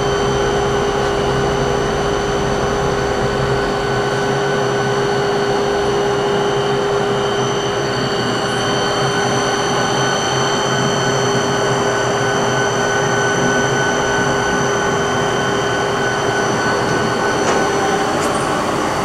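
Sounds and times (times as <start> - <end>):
constant machine whine: 0.0 - 19.0
grinder machine hum: 0.0 - 19.0.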